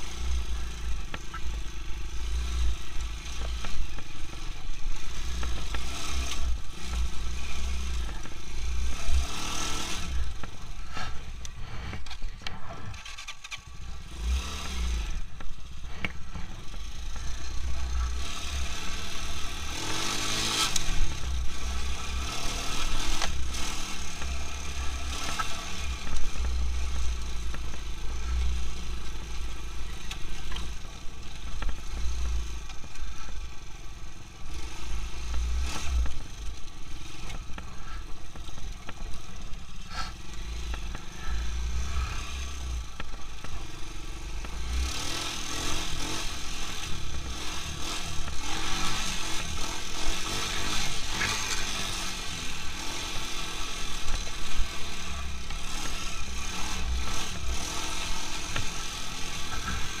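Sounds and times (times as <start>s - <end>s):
quad bike engine running: 0.0s - 60.0s.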